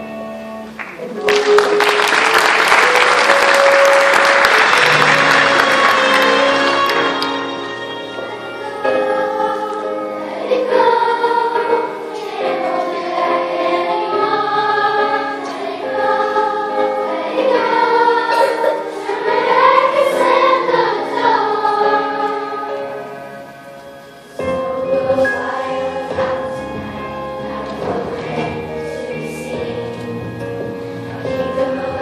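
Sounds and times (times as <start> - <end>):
children's choir singing: 1.5 - 32.0.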